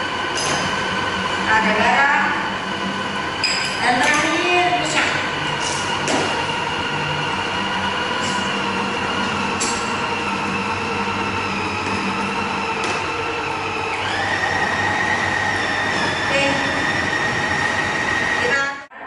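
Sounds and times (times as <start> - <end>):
food processor motor whining: 0.0 - 18.8.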